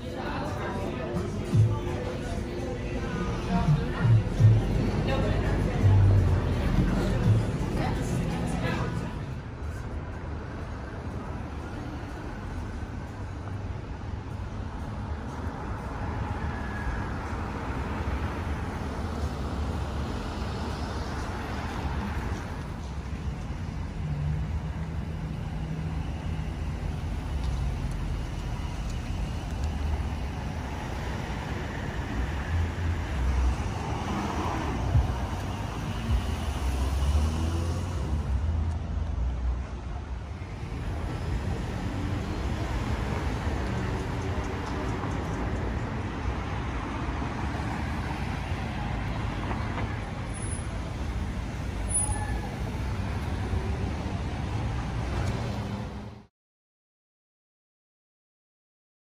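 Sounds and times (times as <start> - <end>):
cars driving past: 0.0 - 56.3.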